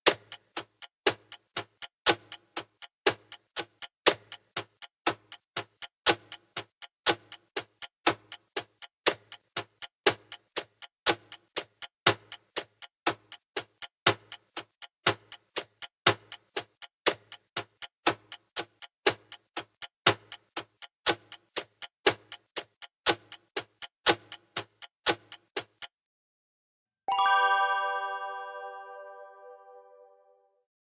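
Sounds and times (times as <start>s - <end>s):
clock ticking: 0.0s - 25.9s.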